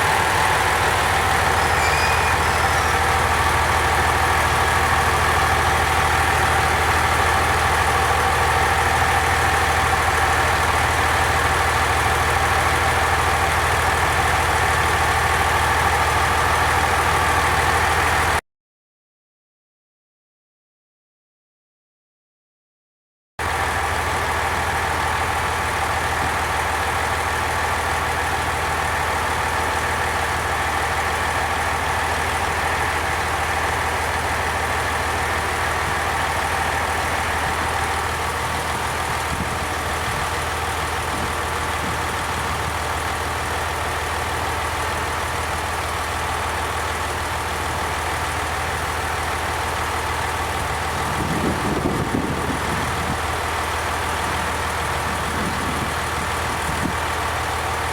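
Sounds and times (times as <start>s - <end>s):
diesel train engine idling: 0.0s - 18.4s, 23.4s - 57.9s.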